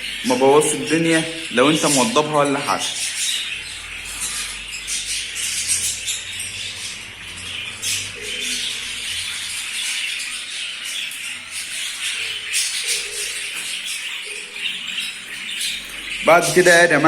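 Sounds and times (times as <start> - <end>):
budgerigars chattering: 0.0 - 17.0.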